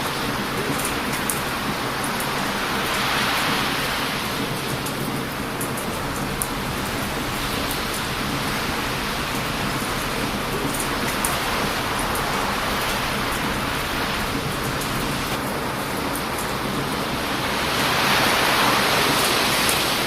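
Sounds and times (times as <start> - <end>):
bonfire crackling: 0.0 - 20.0
surf breaking on beach: 0.0 - 20.0.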